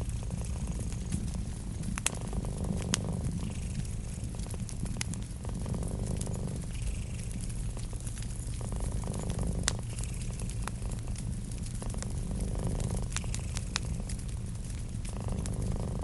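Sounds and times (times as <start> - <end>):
cat purring: 0.0 - 16.0
low steady rumble: 0.0 - 16.0
wood fire crackling pops: 0.0 - 16.0.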